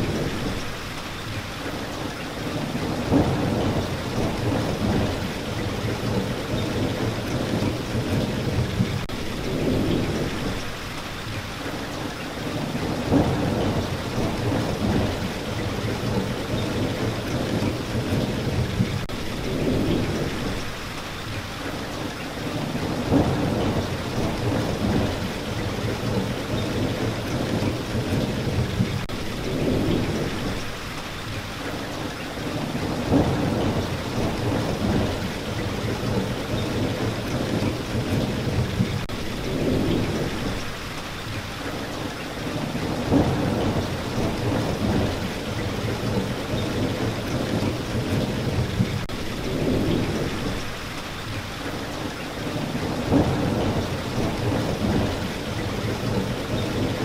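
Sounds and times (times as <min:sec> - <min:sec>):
steady rain: 0:00.0 - 0:57.0
thunder rumbling: 0:02.4 - 0:10.8, 0:12.5 - 0:20.8, 0:22.4 - 0:30.8, 0:32.4 - 0:40.8, 0:42.4 - 0:50.9, 0:52.0 - 0:57.0.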